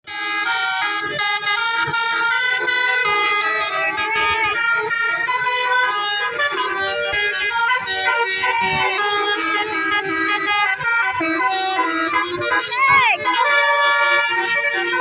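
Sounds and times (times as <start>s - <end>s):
multi-tone horn playing melody: 0.1s - 15.0s.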